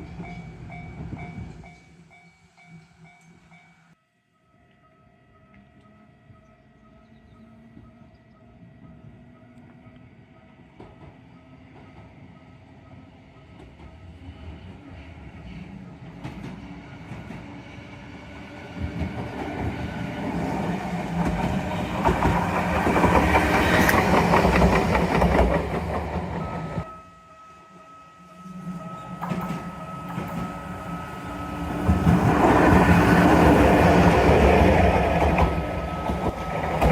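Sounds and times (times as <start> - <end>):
tram wheels clickety-clack: 5.5 - 26.9, 28.7 - 36.9.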